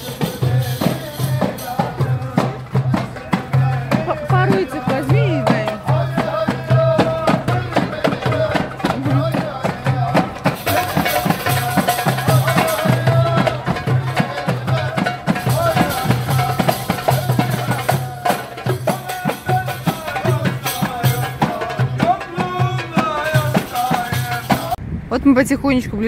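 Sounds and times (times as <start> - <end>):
frame drums beating: 0.0 - 24.8.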